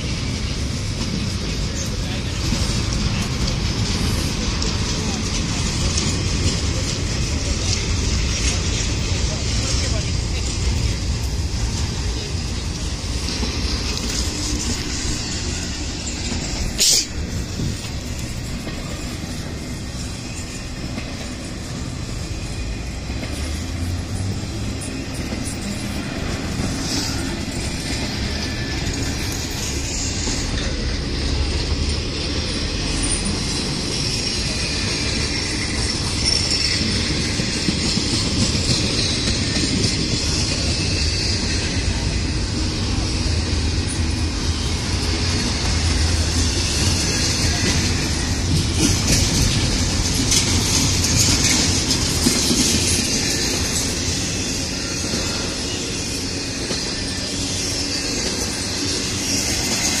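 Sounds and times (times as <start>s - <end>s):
freight train rolling past: 0.0s - 60.0s
wheels rumbling on track: 0.0s - 60.0s.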